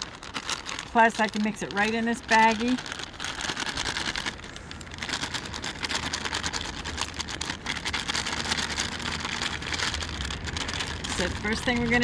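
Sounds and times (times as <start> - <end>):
dry mix pouring into bag: 0.0 - 12.0
low steady hum: 0.0 - 12.0
plastic bag crinkling: 0.0 - 12.0.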